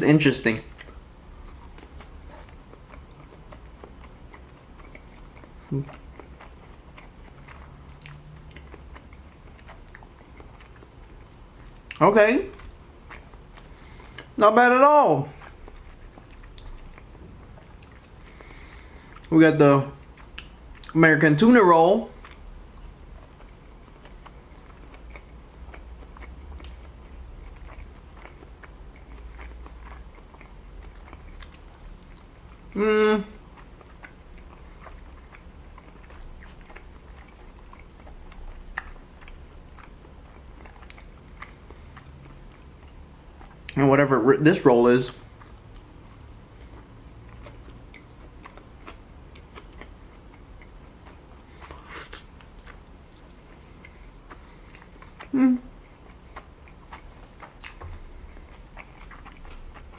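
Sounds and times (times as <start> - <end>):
close-miked chewing: 0.2 - 59.9.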